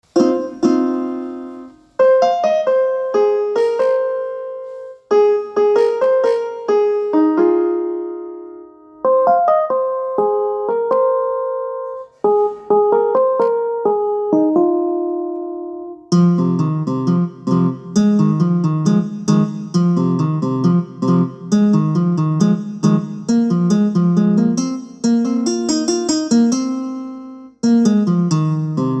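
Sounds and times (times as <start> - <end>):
piano ringtone melody: 0.1 - 29.0.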